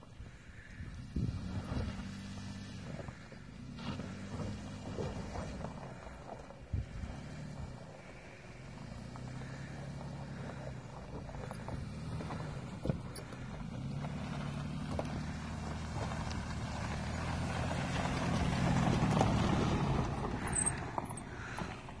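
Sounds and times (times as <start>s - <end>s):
car engine running slowly: 0.0s - 22.0s.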